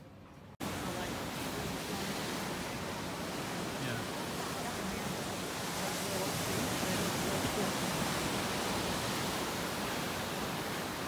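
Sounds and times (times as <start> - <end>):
surf breaking against seawall: 0.6 - 11.0.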